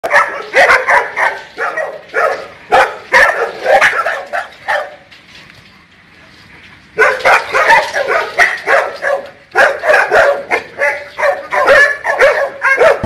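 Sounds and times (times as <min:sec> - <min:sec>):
dogs barking: 0:00.0 - 0:05.1, 0:07.0 - 0:13.0.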